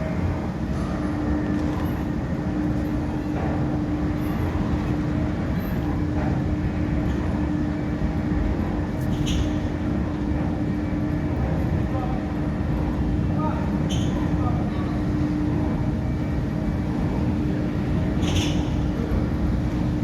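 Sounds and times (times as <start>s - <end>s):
constant hum: 0.0s - 20.0s.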